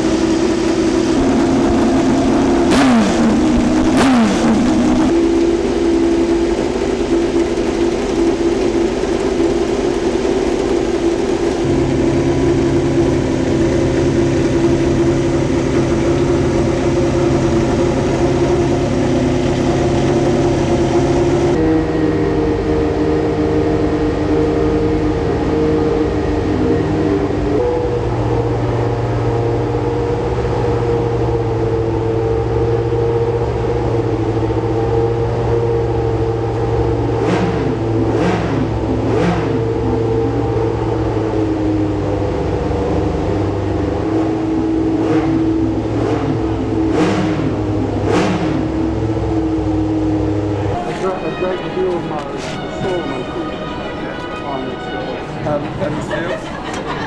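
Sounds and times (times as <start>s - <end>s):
race car engines running: 0.0s - 57.0s.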